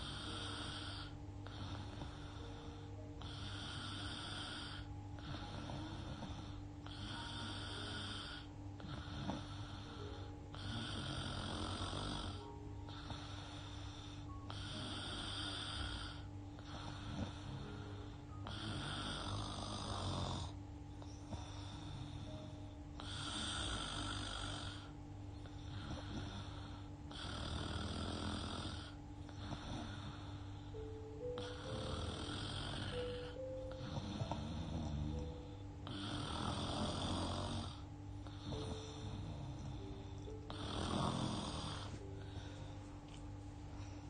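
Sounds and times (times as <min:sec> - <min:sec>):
woman snoring: 0:00.0 - 0:43.2
steady low hum: 0:00.0 - 0:44.0.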